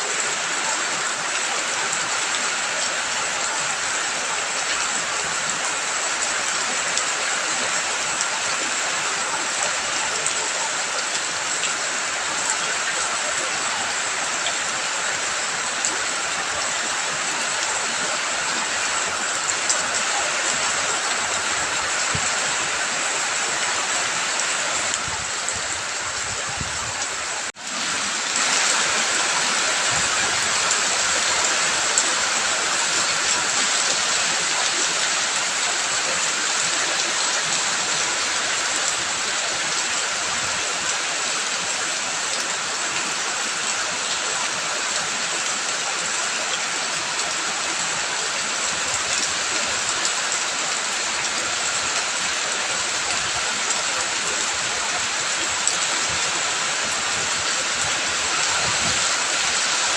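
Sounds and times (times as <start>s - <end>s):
rain and running water: 0.0s - 59.9s.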